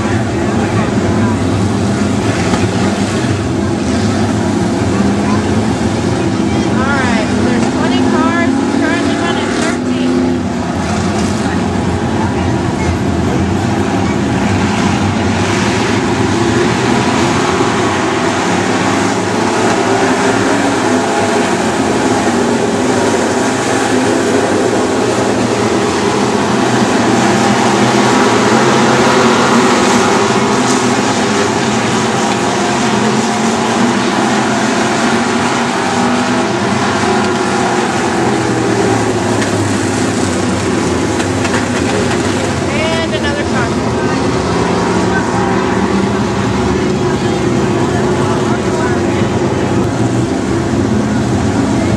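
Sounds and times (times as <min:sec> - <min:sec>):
race car engines running: 0:00.0 - 0:51.9.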